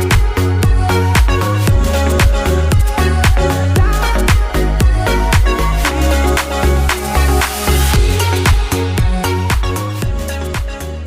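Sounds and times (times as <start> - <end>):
dance music beat: 0.0 - 11.0.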